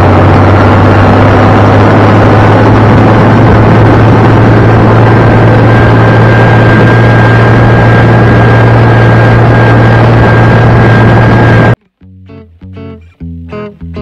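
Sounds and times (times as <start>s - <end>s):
heavy diesel engine running: 0.0s - 11.8s
thin steady whine: 0.0s - 11.8s.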